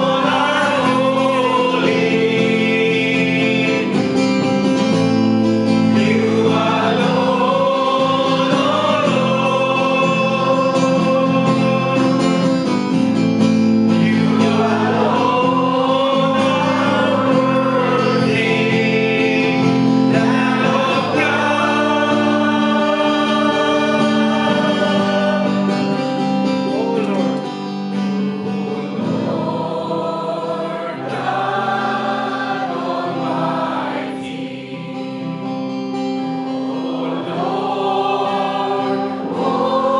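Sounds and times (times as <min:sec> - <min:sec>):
congregation singing: 0:00.0 - 0:39.9
guitar: 0:00.0 - 0:39.9.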